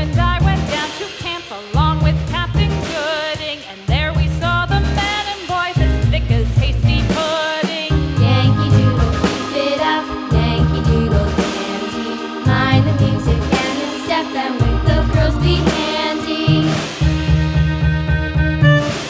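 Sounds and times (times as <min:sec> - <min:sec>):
children's song with beat: 0:00.0 - 0:17.4.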